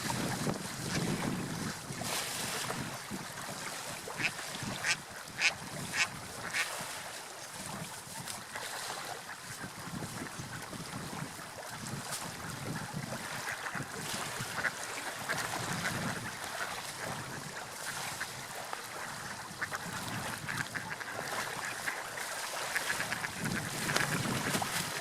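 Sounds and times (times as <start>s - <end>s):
water lapping and splashing: 0.0s - 25.0s.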